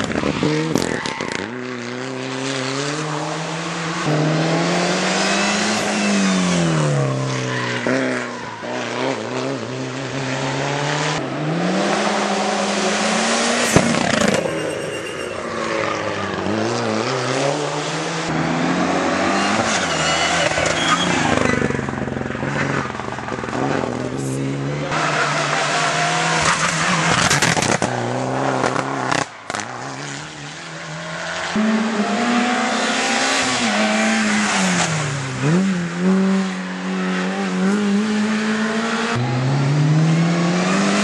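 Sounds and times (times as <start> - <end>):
race car engines revving: 0.0 - 41.0.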